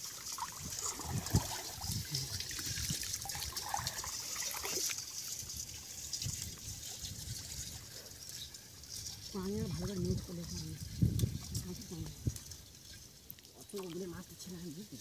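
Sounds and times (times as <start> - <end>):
shallow water sloshing: 0.0 - 14.6
water splashes and gurgles: 0.0 - 15.0.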